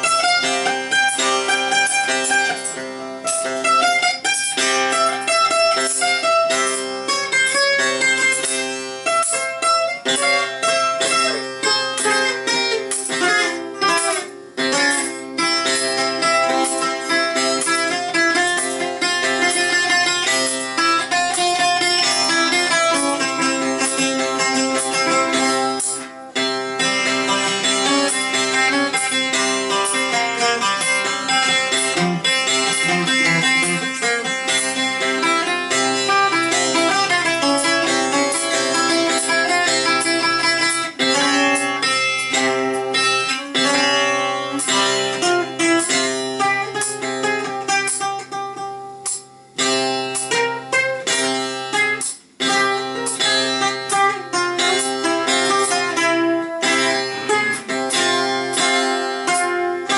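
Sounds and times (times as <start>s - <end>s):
bouzouki plucked melody: 0.0s - 59.9s.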